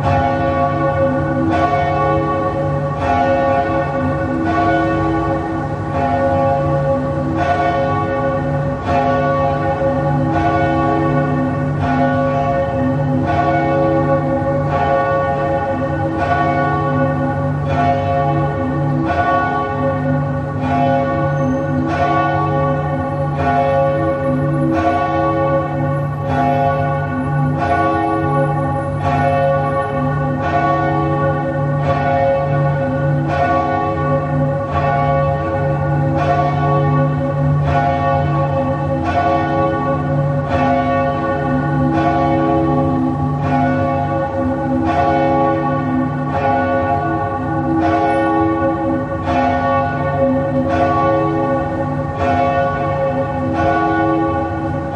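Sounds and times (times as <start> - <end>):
church bells tolling slowly: 0.0 - 54.9.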